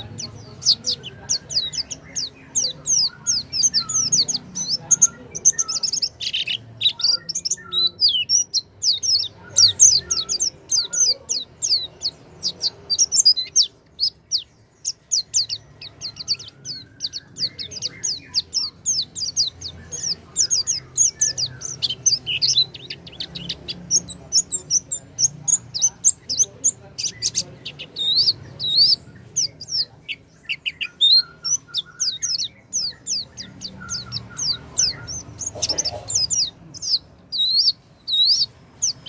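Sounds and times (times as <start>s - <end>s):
bird twittering chirps and trills: 0.0s - 39.0s.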